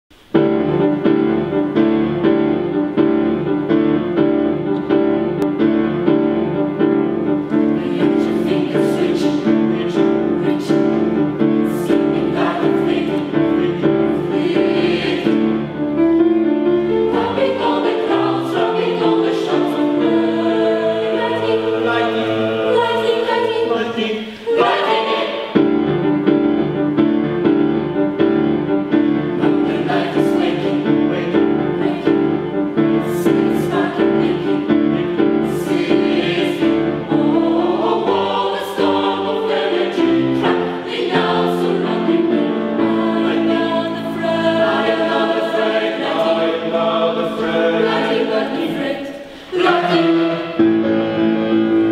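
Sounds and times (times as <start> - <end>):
choir singing sustained chords: 5.4 - 26.8, 28.4 - 51.9.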